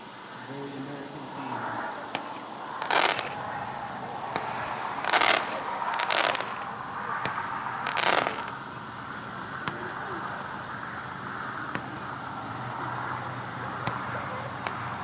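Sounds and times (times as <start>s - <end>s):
distant fireworks bursts: 0.0s - 15.0s
fireworks cracks: 0.0s - 15.0s.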